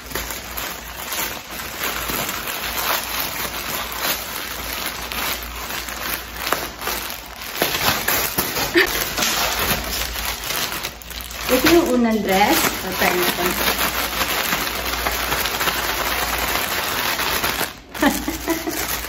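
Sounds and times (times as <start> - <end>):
plastic bag crinkling and tearing: 0.0 - 19.0.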